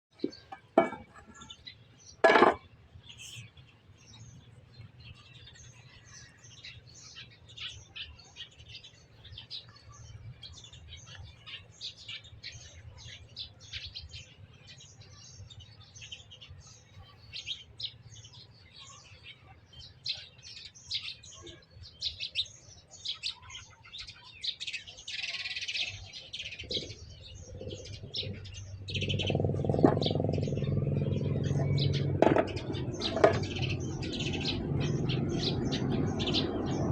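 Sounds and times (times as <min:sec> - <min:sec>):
small birds chirping: 0:00.1 - 0:36.9.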